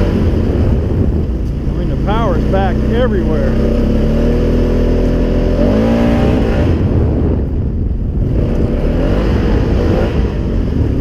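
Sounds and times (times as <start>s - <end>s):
atv engine accelerating: 0.0s - 11.0s.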